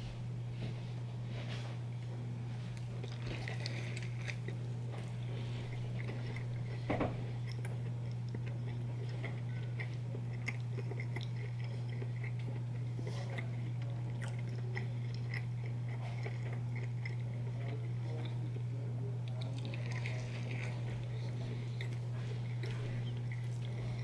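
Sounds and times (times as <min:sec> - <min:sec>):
steady low hum: 0:00.0 - 0:24.0
wet chewing: 0:02.7 - 0:24.0.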